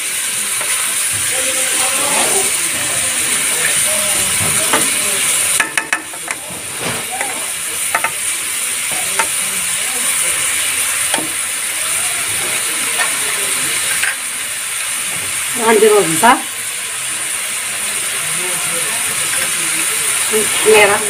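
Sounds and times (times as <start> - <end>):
food sizzling in a pot: 0.0 - 21.0.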